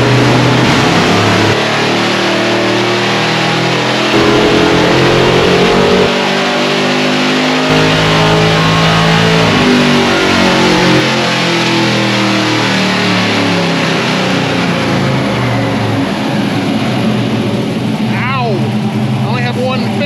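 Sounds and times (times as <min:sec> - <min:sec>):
engine running hard on dyno rollers: 0:00.0 - 0:20.0.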